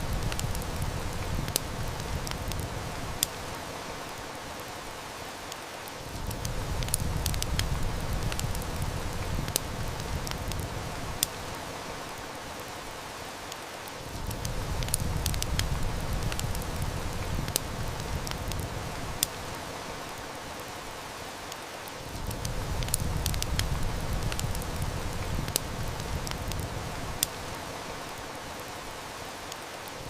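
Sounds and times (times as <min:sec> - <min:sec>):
heavy rain hissing: 0:00.0 - 0:30.0
wood fire crackling: 0:00.0 - 0:30.0.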